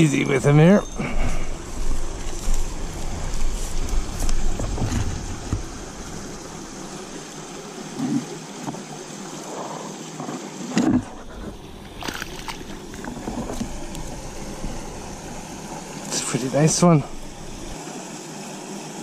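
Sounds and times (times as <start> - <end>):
water gurgling and splashing: 1.6 - 19.0.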